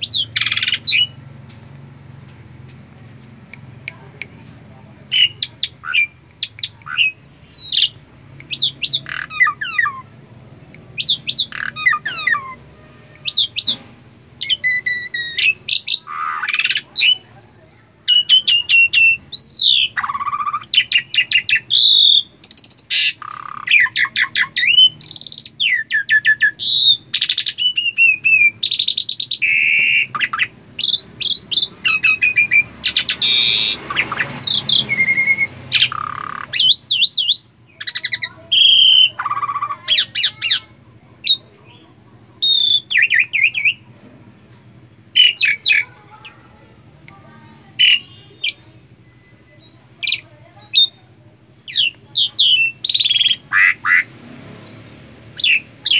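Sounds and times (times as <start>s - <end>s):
starling chattering and whistling: 0.0s - 1.2s, 5.1s - 10.2s, 10.8s - 13.8s, 14.4s - 43.9s, 45.1s - 46.6s, 47.3s - 54.2s, 54.8s - 55.9s.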